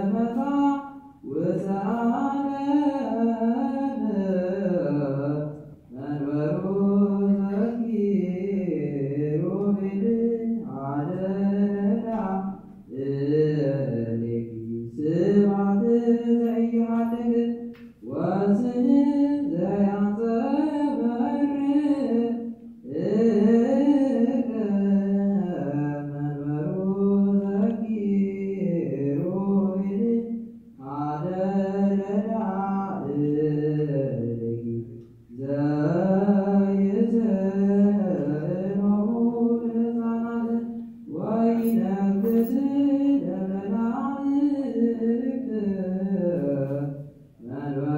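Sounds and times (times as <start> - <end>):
liturgical chant: 0.0 - 47.9.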